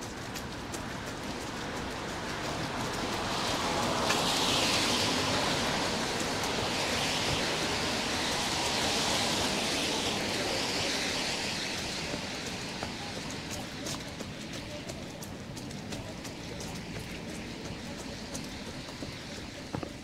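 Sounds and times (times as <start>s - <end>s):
rain hissing on wet street: 0.0s - 20.0s.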